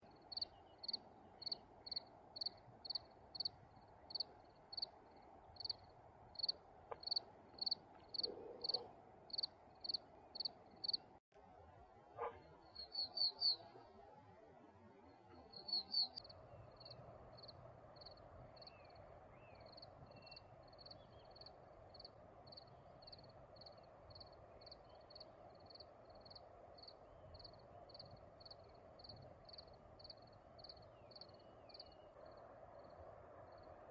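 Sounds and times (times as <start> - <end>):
cricket chirping: 0.2 - 11.0, 15.4 - 33.8.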